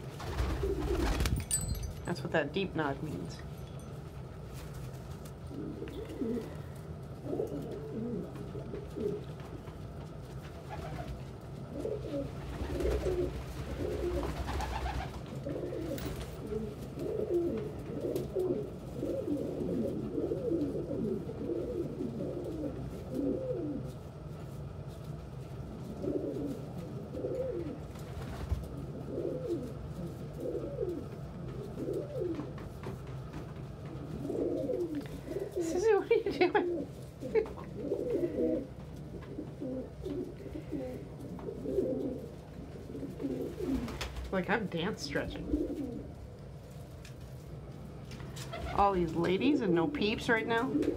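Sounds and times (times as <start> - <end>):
pigeons cooing: 0.0 - 1.4, 5.3 - 47.0, 47.6 - 50.9.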